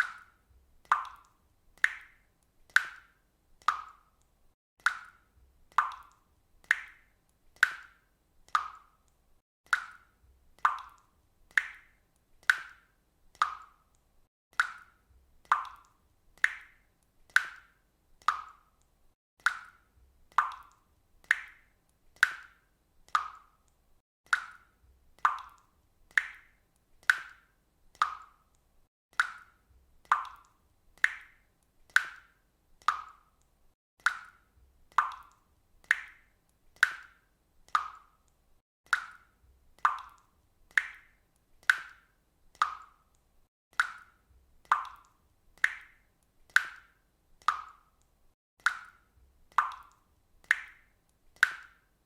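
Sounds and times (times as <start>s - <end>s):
water dripping: 0.0s - 52.0s.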